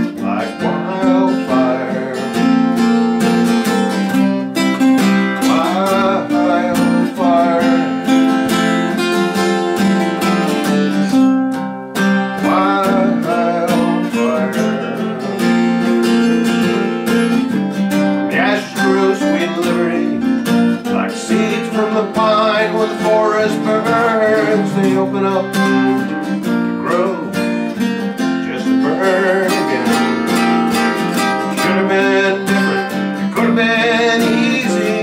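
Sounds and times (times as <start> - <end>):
acoustic guitar strumming chords: 0.0 - 35.0
picked guitar melody: 0.0 - 35.0.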